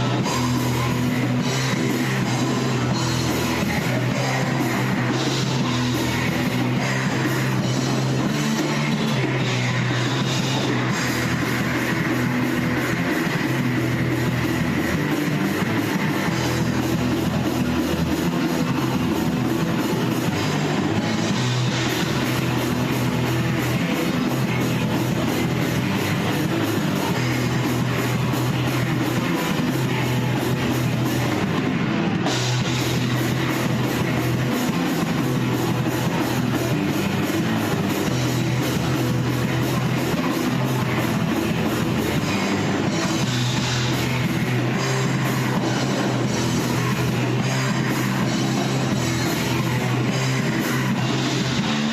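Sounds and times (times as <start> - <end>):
distorted electric guitar: 0.0 - 51.9
rock band playing: 0.0 - 51.9.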